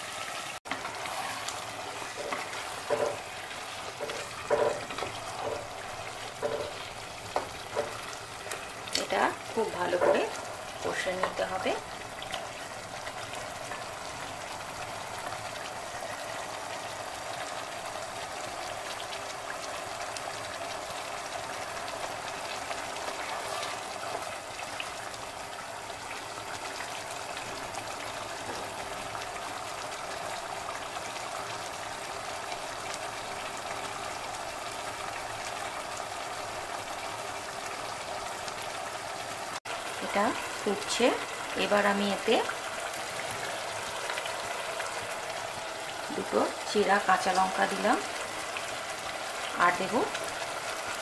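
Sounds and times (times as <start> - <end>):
curry sizzling and bubbling: 0.0 - 51.0.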